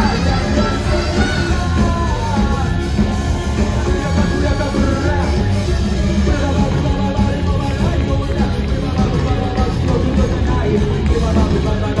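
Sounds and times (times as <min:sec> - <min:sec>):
electric guitar: 0:00.0 - 0:12.0
heavy bass and drum beat: 0:00.0 - 0:12.0
keyboards: 0:00.0 - 0:12.0
rock band playing live: 0:00.0 - 0:12.0.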